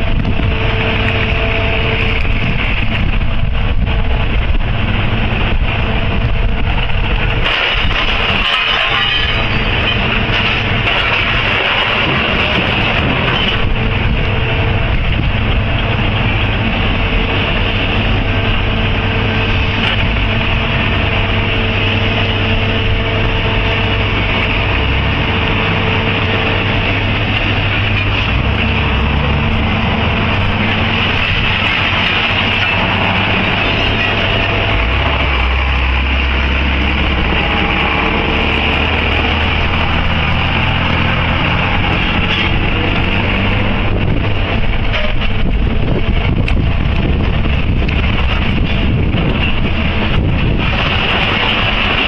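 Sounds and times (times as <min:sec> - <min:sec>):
low hum: 0:00.0 - 0:08.4, 0:09.2 - 0:52.0
heavy construction machinery running: 0:00.0 - 0:52.0.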